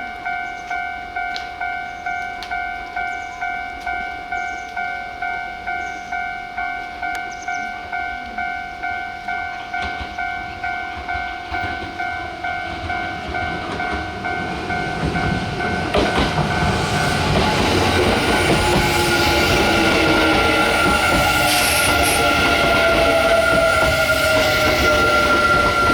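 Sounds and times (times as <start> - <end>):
level crossing warning bell: 0.0 - 25.9
train rumble and rail noise: 0.0 - 25.9.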